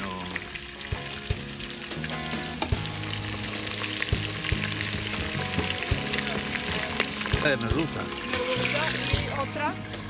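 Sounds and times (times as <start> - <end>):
fish frying in oil: 0.0 - 9.7.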